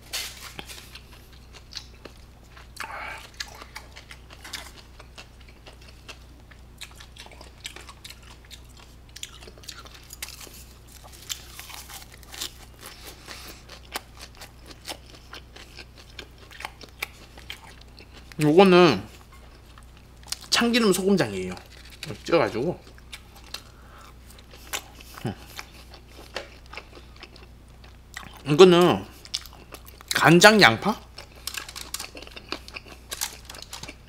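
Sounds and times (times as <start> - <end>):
faint low hum: 0.0 - 34.0
chewing: 0.5 - 18.5, 21.5 - 28.5, 29.1 - 30.2, 31.0 - 34.0.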